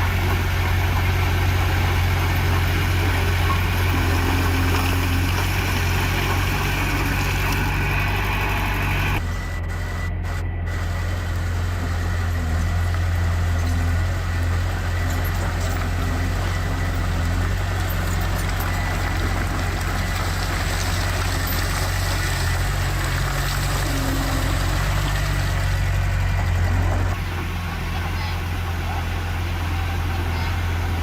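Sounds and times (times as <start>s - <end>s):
diesel engine idling low: 0.0s - 31.0s.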